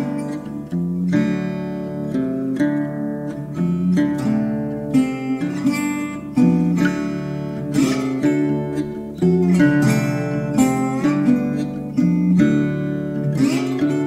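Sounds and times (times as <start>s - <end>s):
acoustic guitar instrumental: 0.0s - 14.0s.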